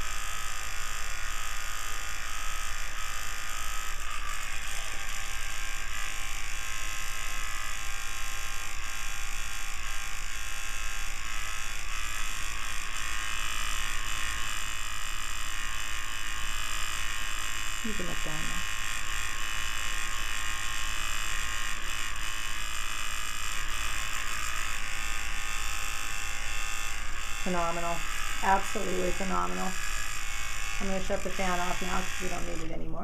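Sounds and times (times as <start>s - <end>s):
electric fan whirring: 0.0s - 33.0s.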